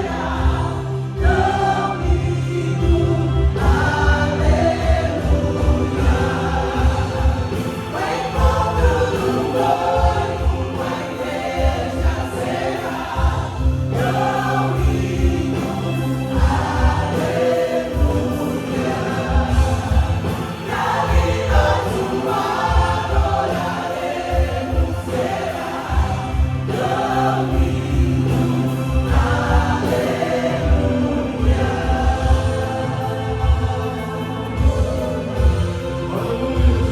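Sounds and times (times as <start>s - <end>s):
people singing: 0.0s - 36.9s
steady drum beat: 0.0s - 36.9s
sustained keyboard and bass: 0.0s - 36.9s.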